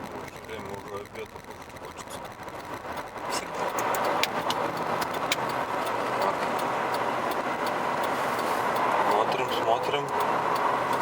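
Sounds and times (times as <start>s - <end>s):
road and engine noise in car: 0.0s - 11.0s
sharp clicks: 0.2s - 11.0s.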